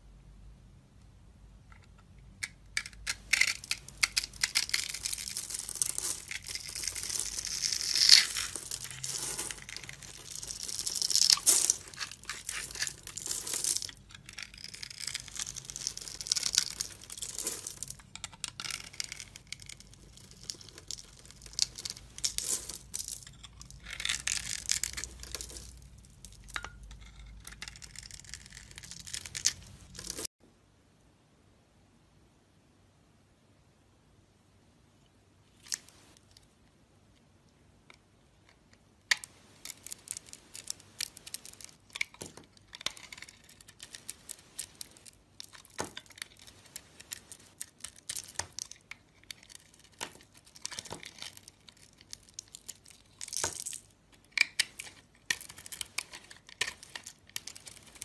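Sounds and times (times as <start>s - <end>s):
crumbly soap crackling: 2.4s - 30.3s, 39.0s - 58.0s.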